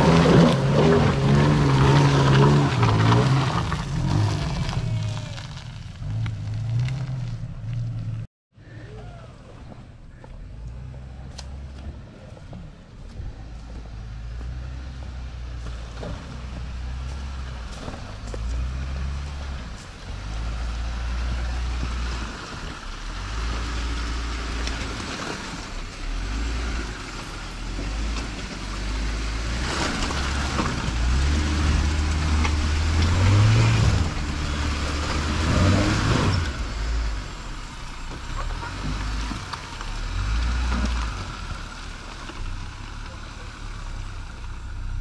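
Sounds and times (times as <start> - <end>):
off-road vehicle engine at low revs: 0.0 - 45.0
tyres in mud: 0.0 - 45.0.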